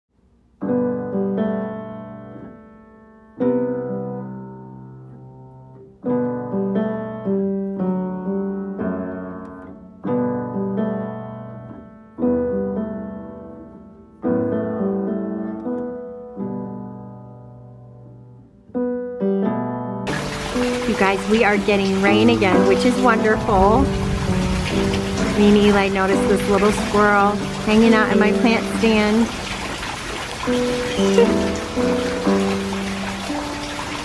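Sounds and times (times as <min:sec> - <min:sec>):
piano chords: 0:00.6 - 0:34.0.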